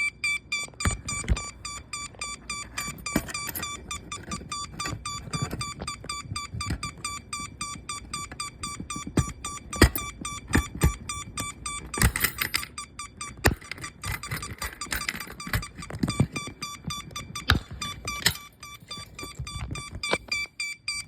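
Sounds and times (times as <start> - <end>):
fire alarm pulsing: 0.0 - 21.0.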